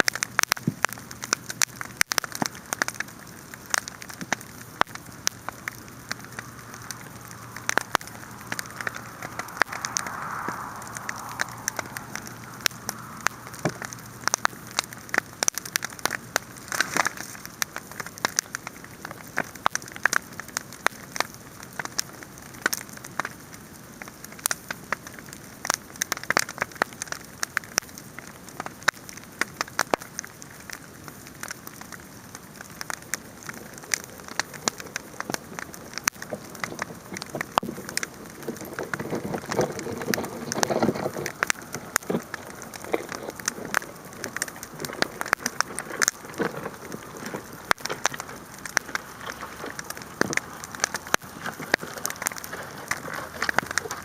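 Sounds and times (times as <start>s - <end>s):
wood fire crackling and popping: 0.0s - 54.0s
fire hissing: 0.1s - 54.0s.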